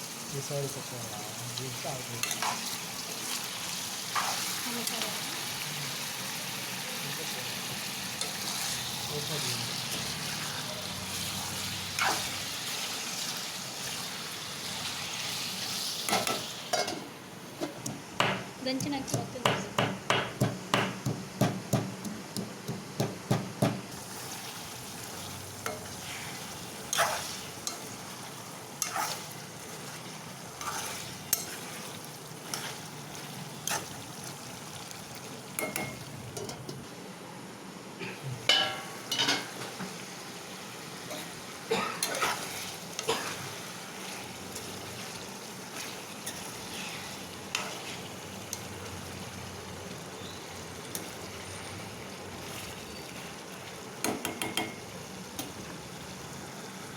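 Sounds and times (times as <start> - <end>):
chicken sizzling in a pan: 0.0 - 17.2, 23.9 - 36.9, 38.4 - 56.9.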